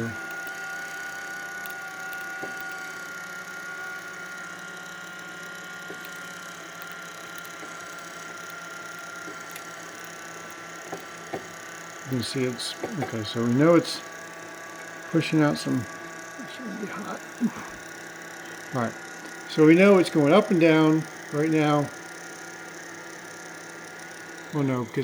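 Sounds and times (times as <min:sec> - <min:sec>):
lower motor tone: 0:00.0 - 0:25.0
stepper motors whining: 0:00.0 - 0:25.0.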